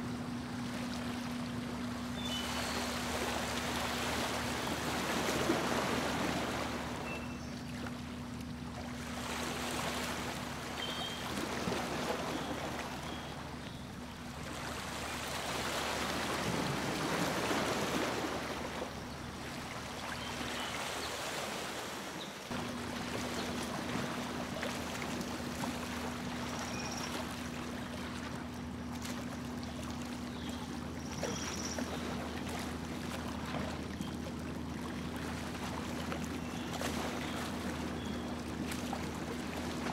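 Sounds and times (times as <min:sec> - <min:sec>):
boat motor humming: 0:00.0 - 0:39.9
water rushing and splashing: 0:00.0 - 0:39.9.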